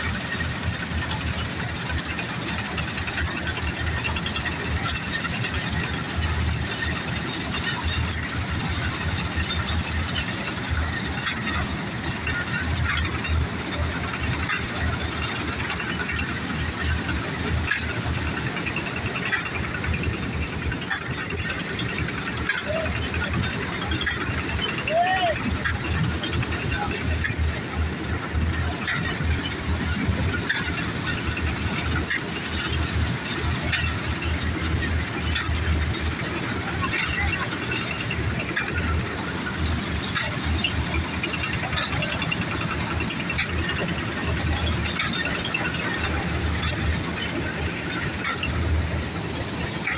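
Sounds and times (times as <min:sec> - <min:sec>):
combine harvester running: 0:00.0 - 0:49.9
machinery clicks and rattles: 0:00.0 - 0:49.9.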